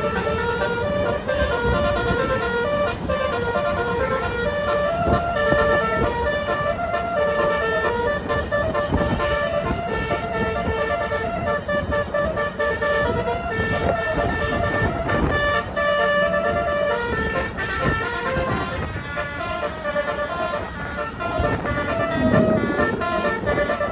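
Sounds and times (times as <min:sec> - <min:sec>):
musical air horn melody: 0:00.0 - 0:23.9
vehicle and street noise: 0:00.0 - 0:23.9.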